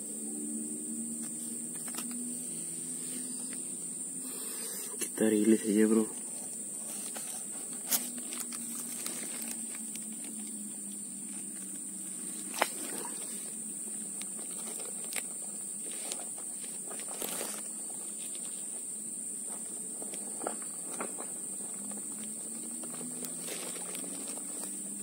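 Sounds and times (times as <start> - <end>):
insect chorus buzzing: 0.0 - 25.0.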